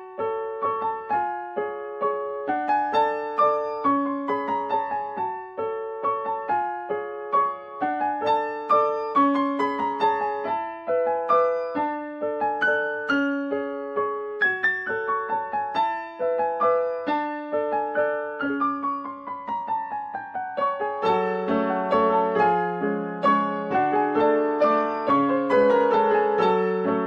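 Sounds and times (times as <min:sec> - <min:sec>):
piano melody: 0:00.0 - 0:27.0.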